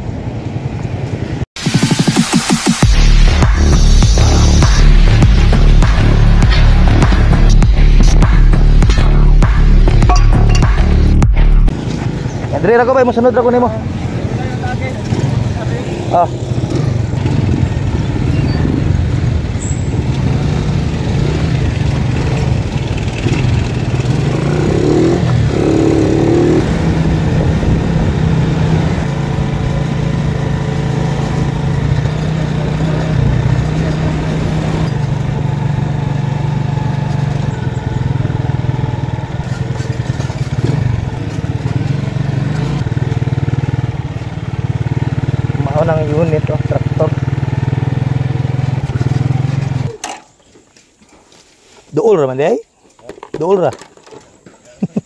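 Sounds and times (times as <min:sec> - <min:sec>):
motorcycle engine running: 0:02.8 - 0:50.0.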